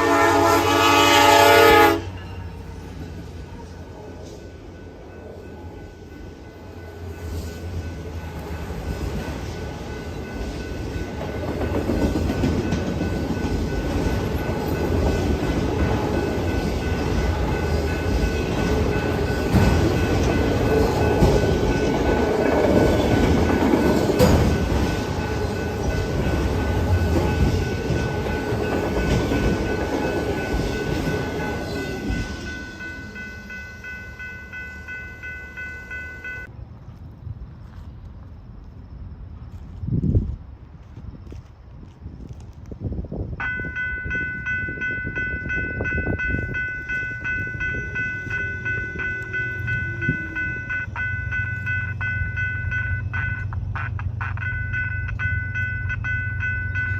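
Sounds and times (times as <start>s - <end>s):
train rumbling and clattering: 0.0s - 56.9s
high-pitched ringing tone: 2.1s - 36.5s, 43.4s - 56.9s.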